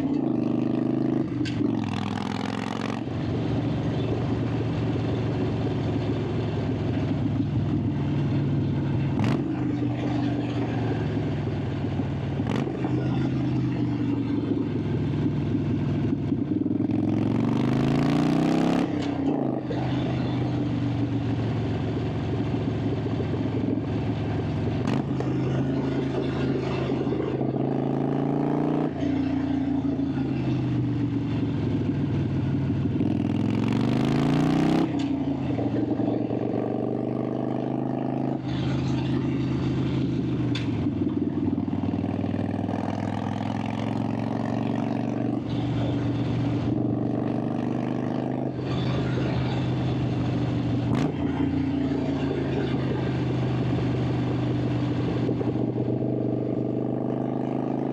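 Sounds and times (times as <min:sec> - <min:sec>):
motorcycle exhaust while riding: 0:00.0 - 0:57.9.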